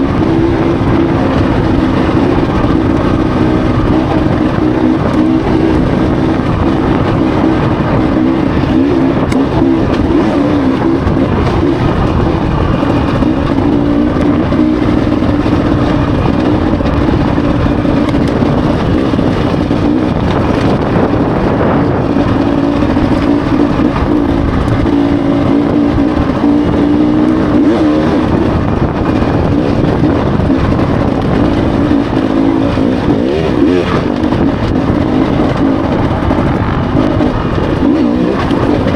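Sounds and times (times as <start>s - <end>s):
dirt bike engine running: 0.0s - 38.9s
rough continuous noise: 0.0s - 38.9s.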